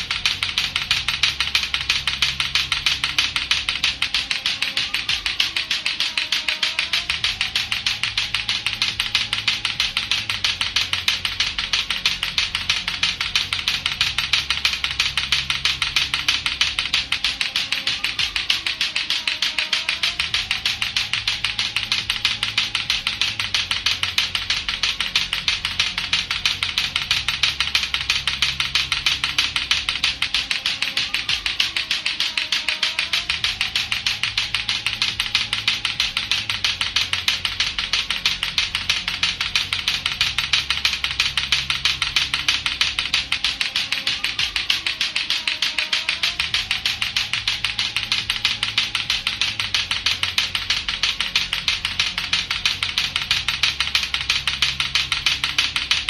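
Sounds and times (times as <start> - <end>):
clacker toy balls clacking: 0.0 - 56.0.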